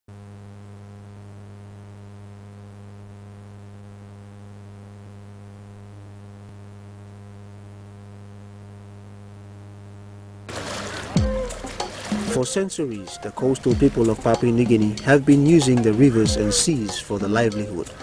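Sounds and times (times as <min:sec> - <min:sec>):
electrical hum: 0:00.1 - 0:18.0.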